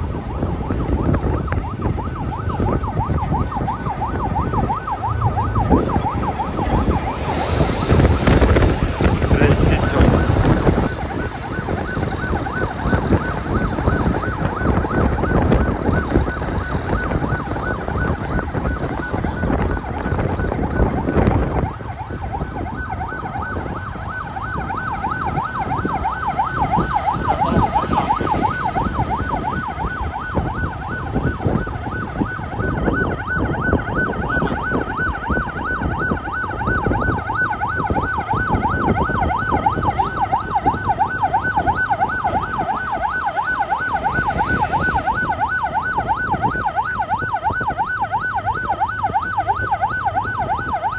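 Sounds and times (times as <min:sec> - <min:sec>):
police siren yelping: 0:00.0 - 0:50.9
wind and road rumble: 0:00.0 - 0:50.9.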